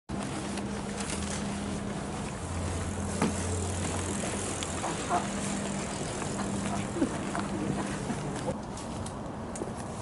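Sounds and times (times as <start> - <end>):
low mechanical hum: 0.1 - 10.0.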